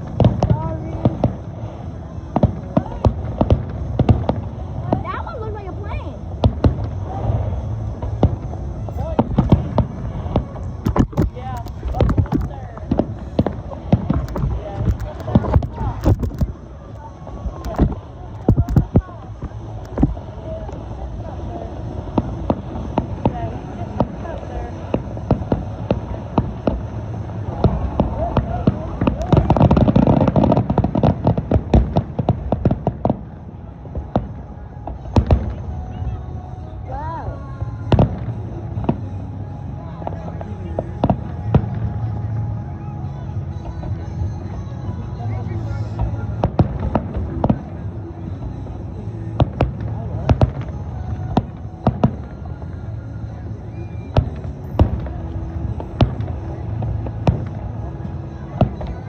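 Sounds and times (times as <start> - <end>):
fireworks crackling and popping: 0.0 - 59.0
low rumble: 0.0 - 59.0.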